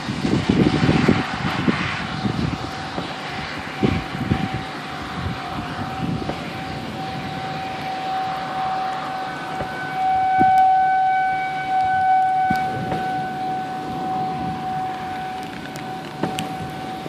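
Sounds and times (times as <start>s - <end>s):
warning siren steady tone: 0.6s - 17.0s.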